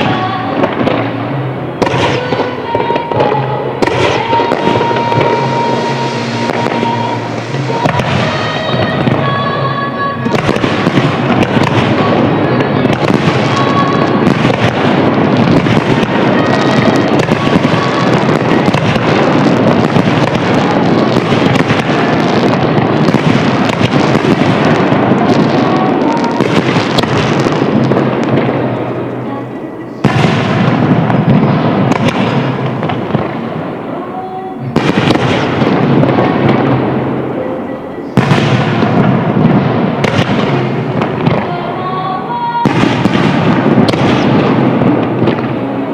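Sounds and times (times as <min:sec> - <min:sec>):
fireworks bursting and crackling: 0:00.0 - 0:45.9
music: 0:00.0 - 0:45.9.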